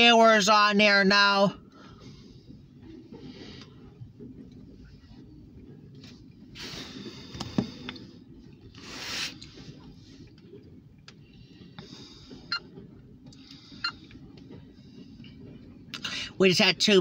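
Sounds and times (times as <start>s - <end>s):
muffled rumble of freight train: 0.0s - 17.0s.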